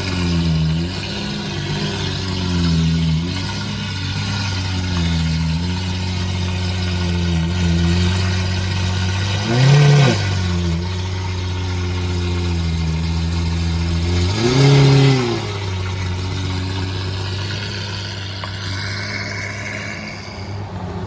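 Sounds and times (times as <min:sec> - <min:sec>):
car engine idling: 0:00.0 - 0:21.0
car engine revving: 0:00.0 - 0:21.0.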